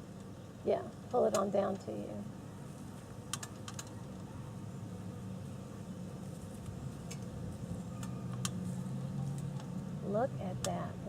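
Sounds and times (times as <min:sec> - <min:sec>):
bee swarm buzzing: 0:01.4 - 0:11.0.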